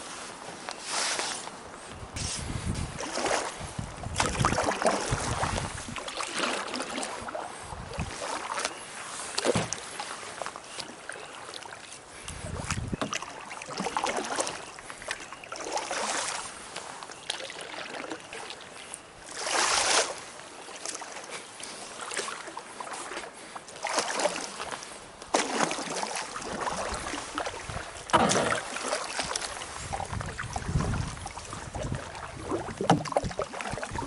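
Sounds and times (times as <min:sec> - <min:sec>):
canoe paddle splashing water: 0:02.2 - 0:34.0.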